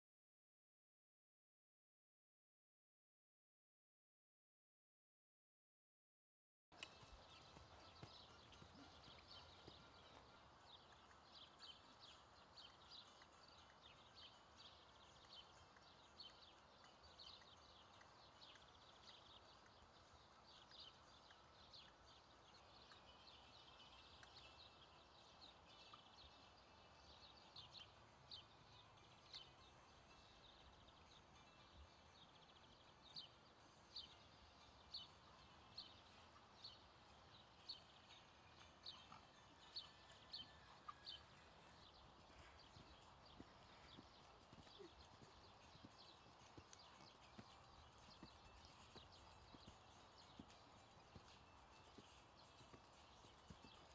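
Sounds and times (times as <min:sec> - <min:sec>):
horse hoofbeats on sand: 0:06.8 - 0:31.2, 0:34.0 - 0:53.9.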